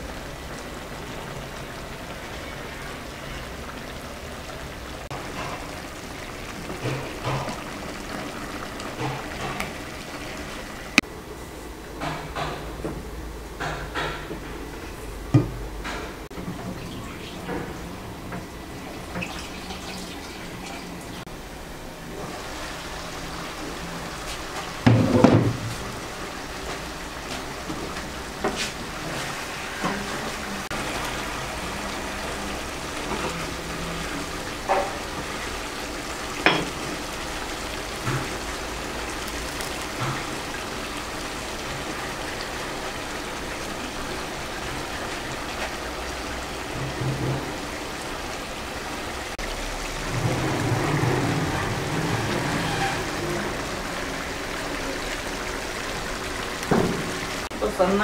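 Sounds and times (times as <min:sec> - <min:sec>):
broth bubbling in a frying pan: 0:00.0 - 0:12.8, 0:13.4 - 0:58.0.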